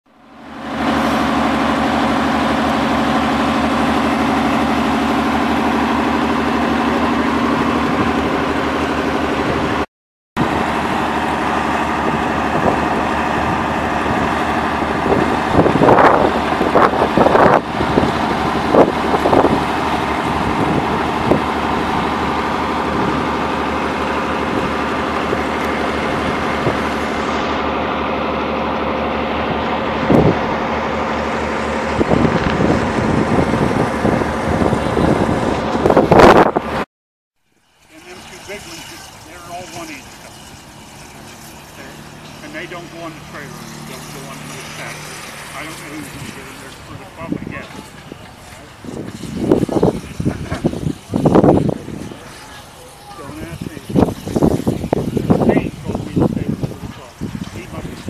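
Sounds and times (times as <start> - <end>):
tractor engine running under load: 0.1 - 36.8, 37.4 - 58.0.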